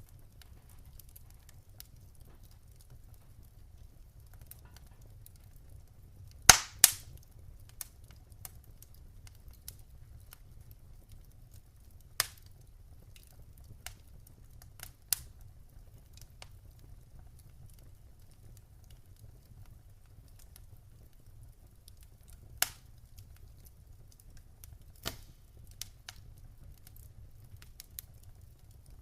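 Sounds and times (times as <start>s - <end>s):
burning wood popping: 0.0s - 29.0s
wood fire crackling: 0.0s - 29.0s.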